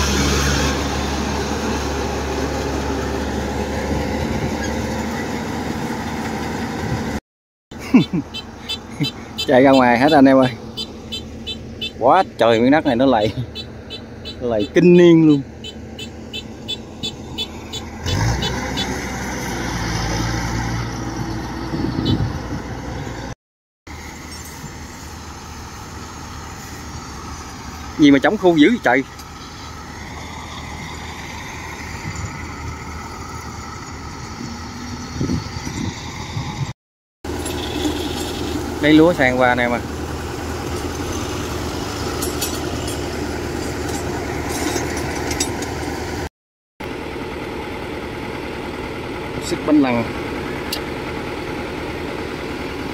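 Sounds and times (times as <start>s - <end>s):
diesel engine straining: 0.0s - 52.9s.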